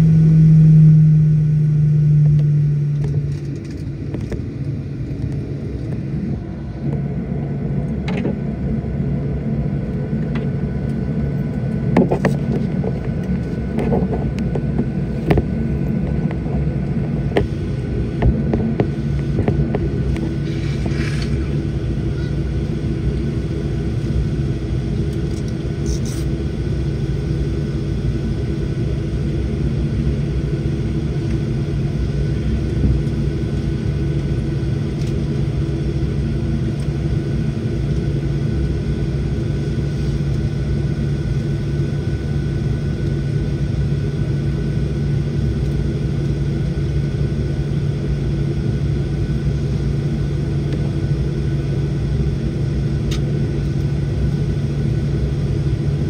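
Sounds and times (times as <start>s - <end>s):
airliner cabin rumble and hum: 0.0s - 56.0s.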